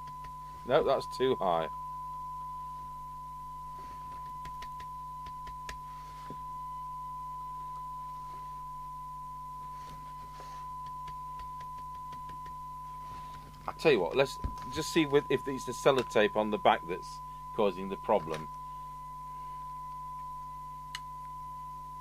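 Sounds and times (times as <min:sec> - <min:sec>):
faint mains hum: 0:00.0 - 0:22.0
steady test tone: 0:00.0 - 0:22.0.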